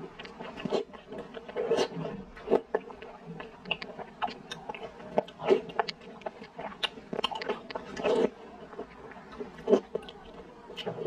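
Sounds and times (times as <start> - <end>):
wet chewing smacks: 0.0 - 11.0.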